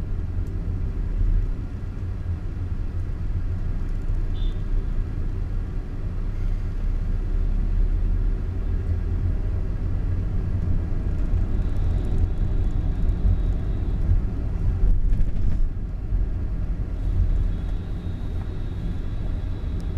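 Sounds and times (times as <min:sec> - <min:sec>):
car engine and tyres rumble: 0:00.0 - 0:19.9.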